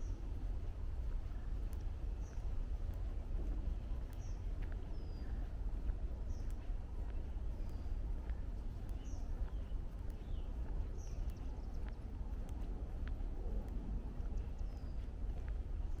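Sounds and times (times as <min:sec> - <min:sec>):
footsteps on trail: 0:00.0 - 0:16.0
small birds chirping: 0:00.0 - 0:16.0.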